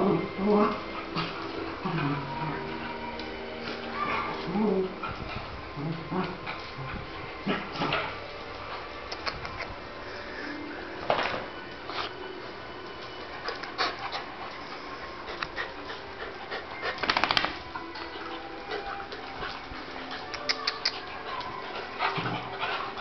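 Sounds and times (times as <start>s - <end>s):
dogs scuffling on tile floor: 0.0s - 23.0s.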